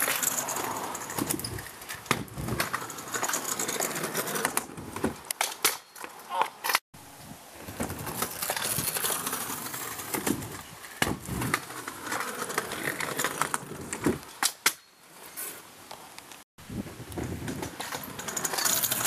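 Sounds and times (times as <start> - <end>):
scooter wheels rolling on asphalt: 0.0 - 6.7, 7.4 - 14.5, 15.1 - 19.0
scooter clacking on ground: 0.0 - 6.8, 7.7 - 15.0, 17.2 - 19.0.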